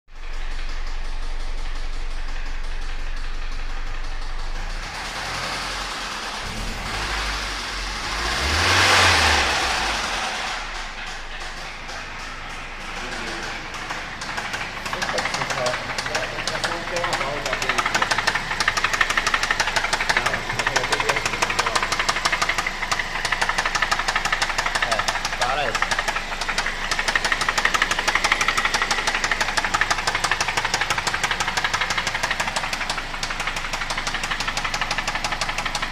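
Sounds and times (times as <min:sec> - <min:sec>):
car engine with uneven knocking: 0:00.1 - 0:35.9.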